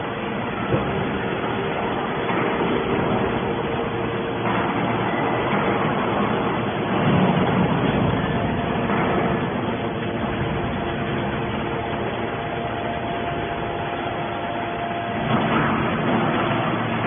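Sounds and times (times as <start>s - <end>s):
hydraulic baler machine running: 0.0s - 17.0s.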